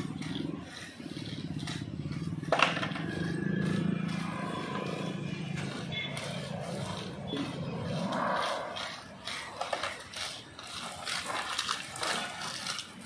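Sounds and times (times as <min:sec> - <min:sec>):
wheels rumbling over rough cement: 0:00.0 - 0:13.0.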